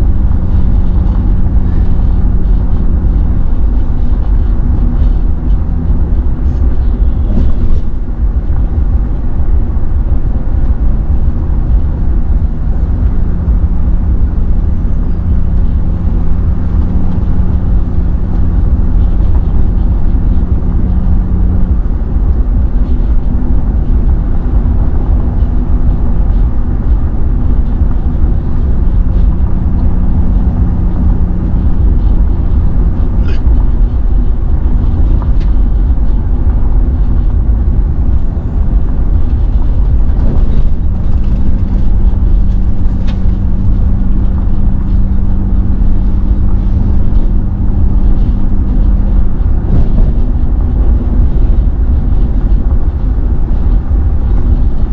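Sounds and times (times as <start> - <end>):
faint engine hum: 0.0 - 54.9
road and engine rumble: 0.0 - 54.9.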